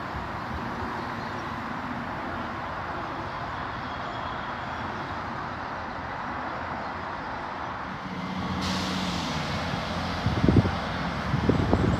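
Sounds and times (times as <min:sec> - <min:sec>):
diesel train rumble: 0:00.0 - 0:11.9.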